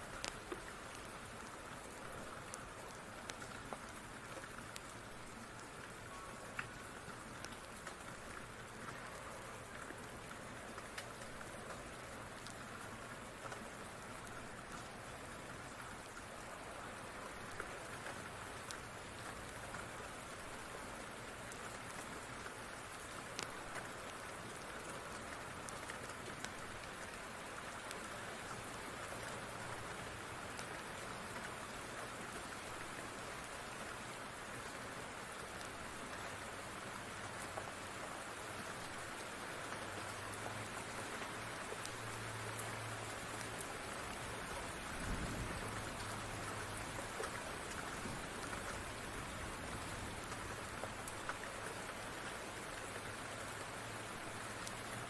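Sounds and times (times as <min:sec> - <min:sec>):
steady rain falling: 0:00.0 - 0:55.0
fireplace fire crackling: 0:00.1 - 0:15.4, 0:16.0 - 0:38.0, 0:38.7 - 0:53.2.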